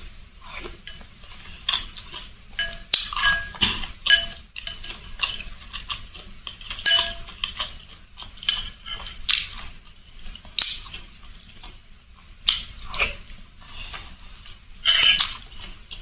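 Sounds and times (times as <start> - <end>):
utensils clinking against a bowl: 0.0 - 11.7, 12.6 - 16.0
eating noises: 0.0 - 16.0.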